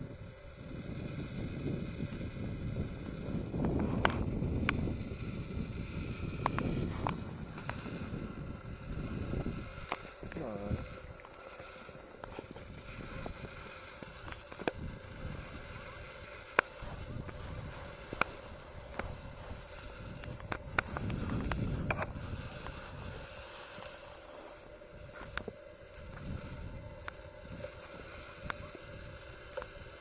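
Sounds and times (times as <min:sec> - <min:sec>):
wind buffeting microphone: 0:00.0 - 0:23.7, 0:24.6 - 0:29.9.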